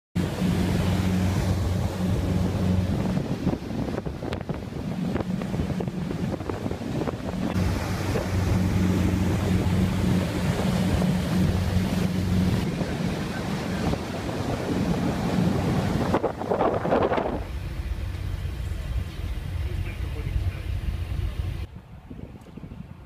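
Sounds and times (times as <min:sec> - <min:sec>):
boat engine droning: 0:00.2 - 0:23.0
wind buffeting microphone: 0:00.2 - 0:23.0.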